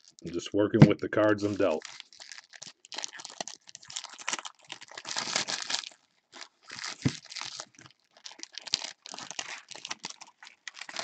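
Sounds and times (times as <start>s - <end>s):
foil wrappers crinkling: 0.0s - 0.4s, 1.2s - 11.0s.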